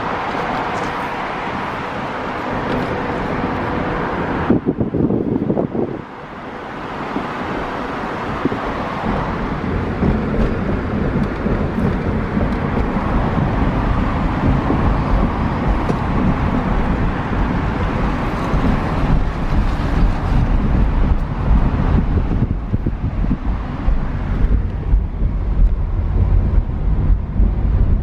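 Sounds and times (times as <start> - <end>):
road rumble: 0.0 - 28.0
wind noise: 0.0 - 28.0.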